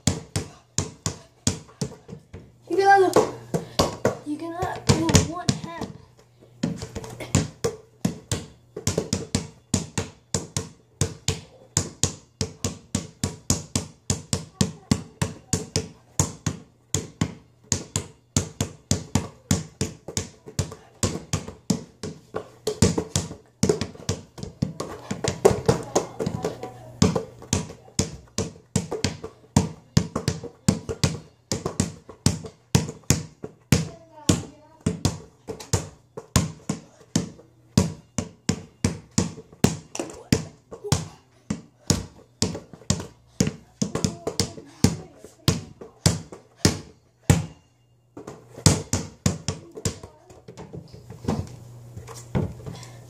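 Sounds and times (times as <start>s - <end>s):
basketball dribbled fast: 0.0s - 6.0s, 6.6s - 47.6s, 48.6s - 50.7s.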